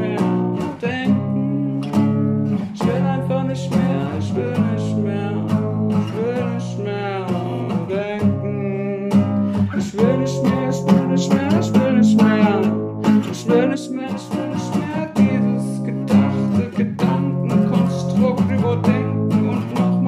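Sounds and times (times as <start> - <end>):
acoustic guitar chords: 0.0 - 20.0
man singing: 0.0 - 20.0.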